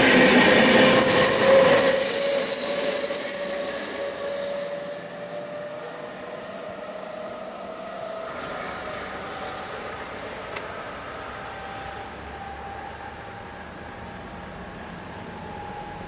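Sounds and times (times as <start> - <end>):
train rolling past: 0.0 - 16.0
wheels squealing on rails: 0.0 - 16.0.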